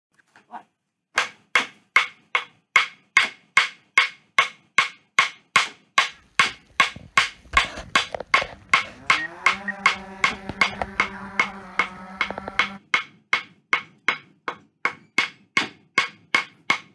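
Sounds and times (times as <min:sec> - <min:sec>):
sharp wooden knocks beat: 0:01.2 - 0:16.9.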